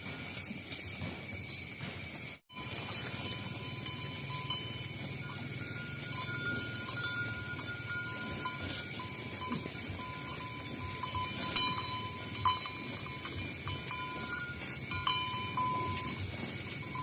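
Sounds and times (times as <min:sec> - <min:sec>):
cowbells clanking: 0:02.5 - 0:17.0.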